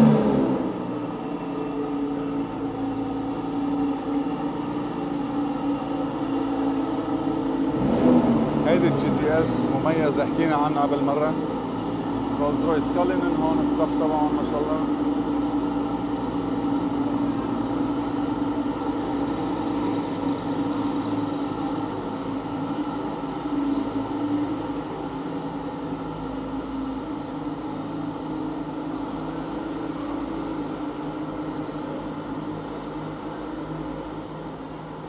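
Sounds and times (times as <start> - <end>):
air conditioning humming: 0.0 - 35.0.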